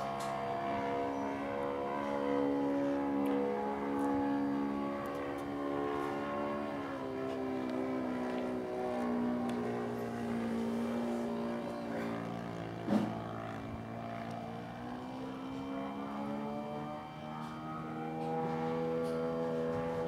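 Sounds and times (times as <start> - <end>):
model plane engine drone: 0.0 - 20.0.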